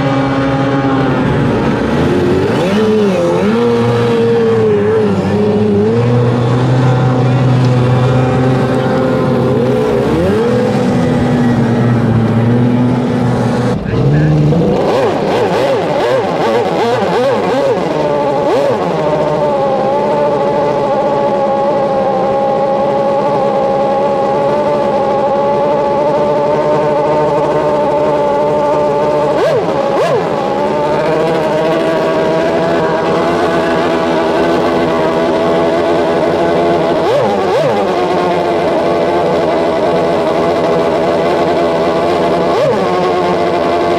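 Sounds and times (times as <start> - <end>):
racing outboard motor revving: 0.0 - 43.9.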